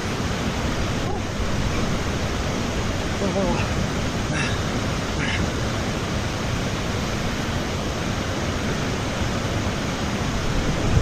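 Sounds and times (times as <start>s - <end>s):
river and waterfall rushing: 0.0s - 11.0s.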